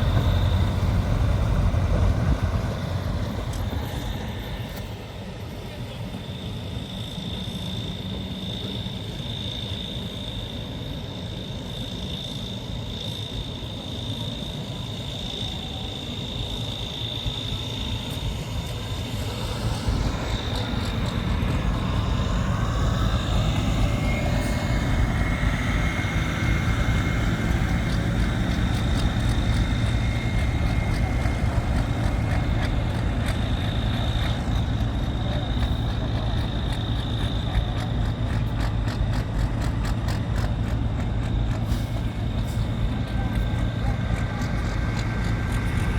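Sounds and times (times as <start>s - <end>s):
tractor engine rumbling with whine: 0.0s - 45.9s.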